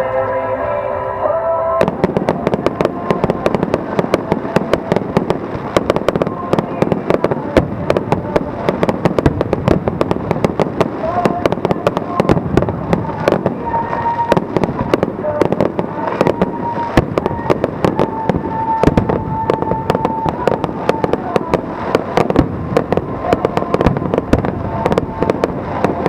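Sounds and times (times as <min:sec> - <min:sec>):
held high tone: 0:00.0 - 0:26.0
fireworks bangs and crackles: 0:01.8 - 0:26.0.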